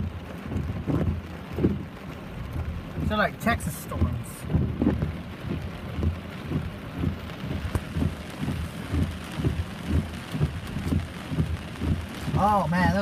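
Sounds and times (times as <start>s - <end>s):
dull low thumps: 0.0s - 13.0s
heavy rain falling: 0.0s - 13.0s.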